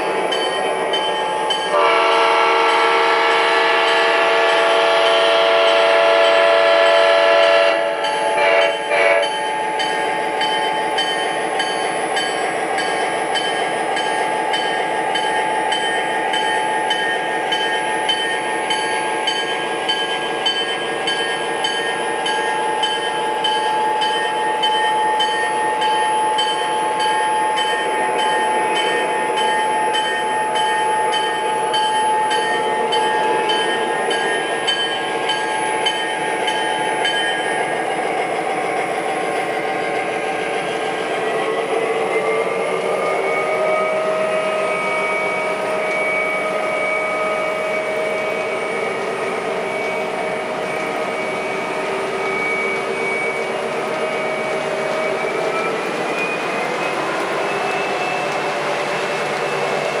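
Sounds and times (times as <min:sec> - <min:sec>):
model train diesel engine sound: 0:00.0 - 1:00.0.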